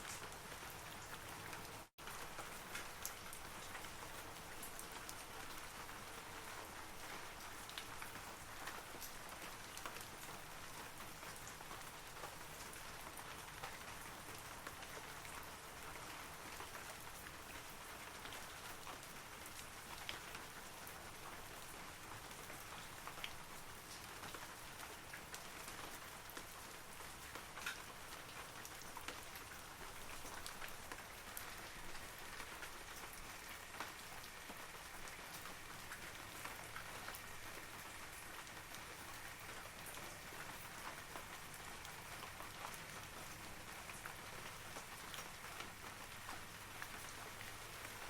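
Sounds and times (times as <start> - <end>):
rain falling on trees: 0.0 - 48.0.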